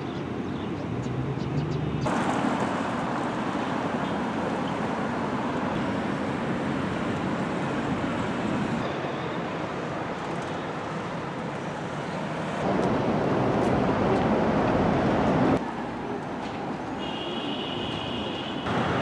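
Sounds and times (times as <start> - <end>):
city street traffic: 0.0 - 19.0.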